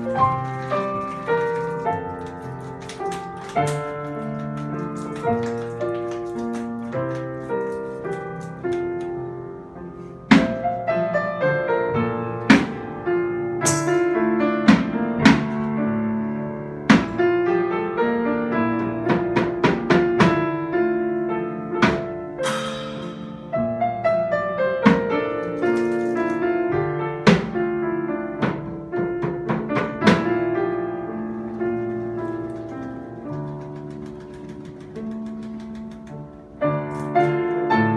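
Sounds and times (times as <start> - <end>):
piano melody: 0.0 - 37.9.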